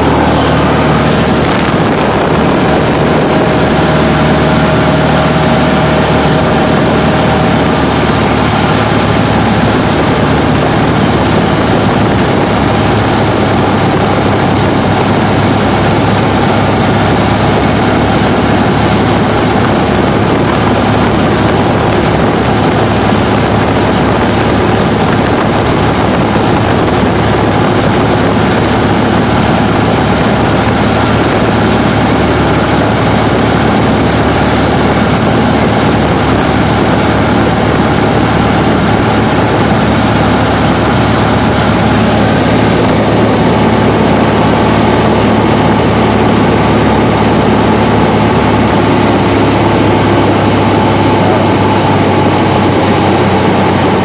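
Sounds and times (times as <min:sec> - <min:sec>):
airplane engine and propeller droning: 0:00.0 - 0:54.0.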